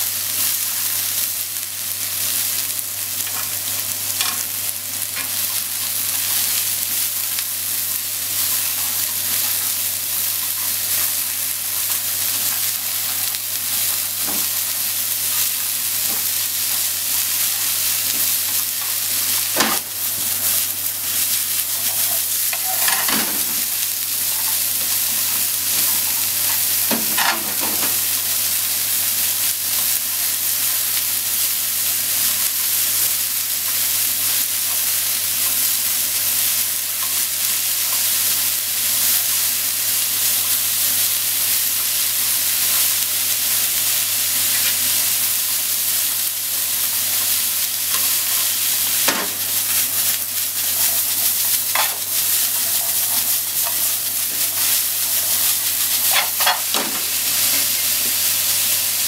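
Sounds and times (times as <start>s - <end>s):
vegetables sizzling in frying pan: 0.0s - 59.0s.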